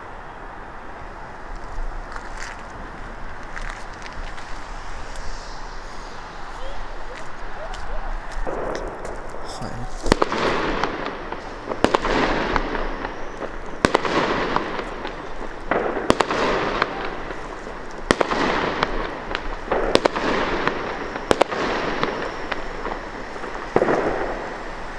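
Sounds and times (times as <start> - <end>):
fireworks crackling: 0.0 - 24.9
fireworks bangs: 0.6 - 24.9.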